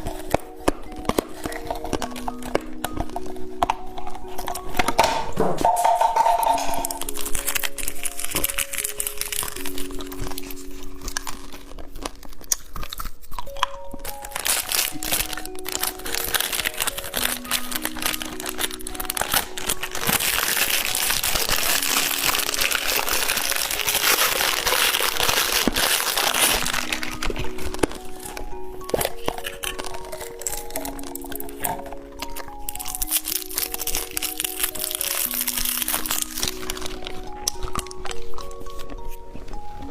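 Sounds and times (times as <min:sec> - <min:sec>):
candy wrappers crinkling: 0:00.0 - 0:39.9
crunching: 0:00.0 - 0:39.9
light background melody: 0:00.0 - 0:39.9.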